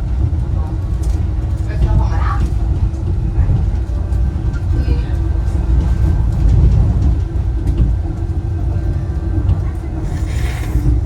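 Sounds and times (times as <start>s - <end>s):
railway car rumbling: 0.0s - 11.0s.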